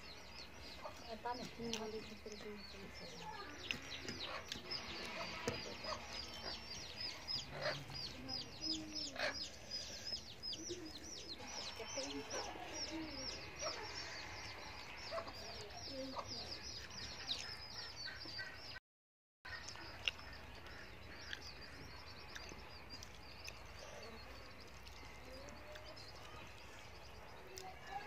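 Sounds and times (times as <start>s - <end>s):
small birds chirping: 0.0s - 18.8s, 19.5s - 28.0s.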